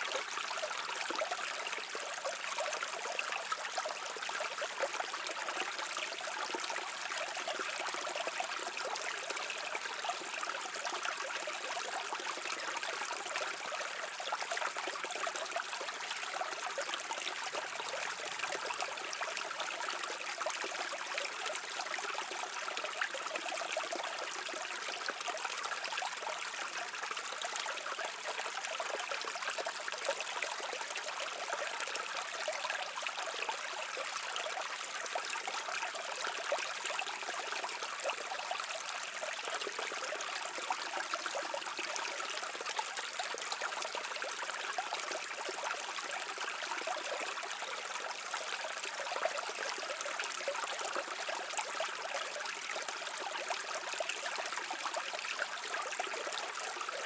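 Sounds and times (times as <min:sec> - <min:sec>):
brook babbling over stones: 0:00.0 - 0:57.0.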